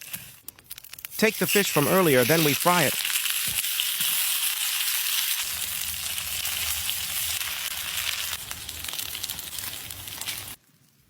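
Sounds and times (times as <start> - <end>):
fish frying in hot oil: 0.0 - 10.6.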